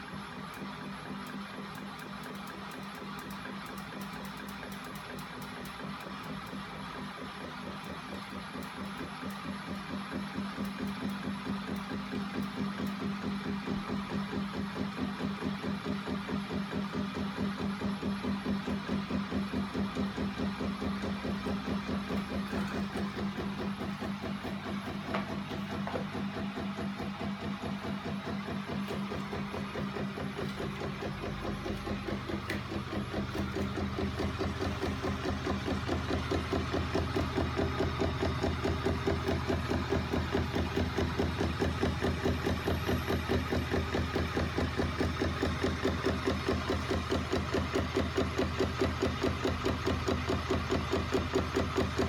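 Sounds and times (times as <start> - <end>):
mechanism knocking in fast beat: 0.0 - 52.0.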